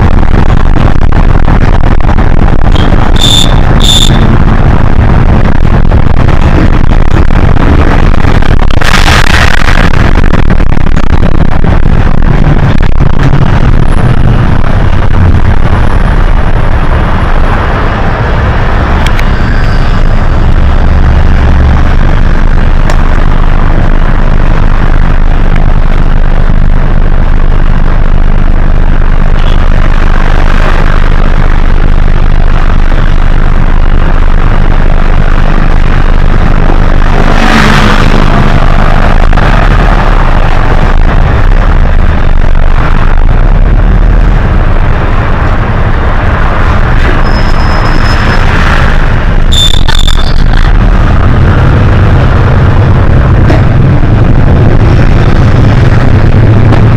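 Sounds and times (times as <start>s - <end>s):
bus engine running: 0.0s - 56.9s.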